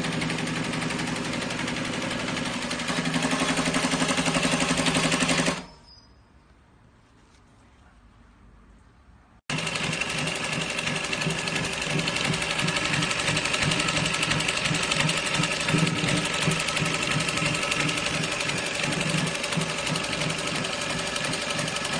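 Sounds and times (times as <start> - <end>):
overlock sewing machine running: 0.0 - 5.7, 9.5 - 21.9.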